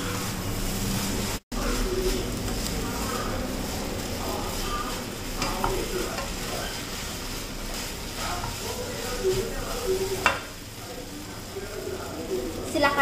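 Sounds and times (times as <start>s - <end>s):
noodles sizzling in a wok: 0.0s - 13.0s
spatula scraping a wok: 0.0s - 13.0s.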